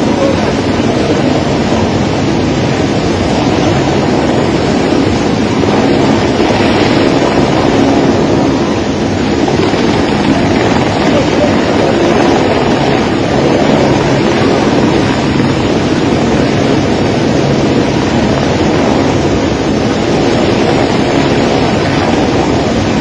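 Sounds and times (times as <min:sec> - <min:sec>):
helicopter rotor and turbine: 0:00.0 - 0:23.0
rotor wash wind on microphone: 0:00.0 - 0:23.0
rushing floodwater: 0:00.0 - 0:23.0.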